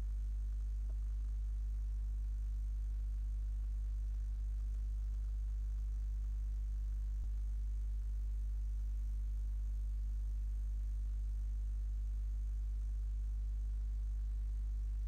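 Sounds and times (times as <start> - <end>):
mains hum: 0.0 - 15.0.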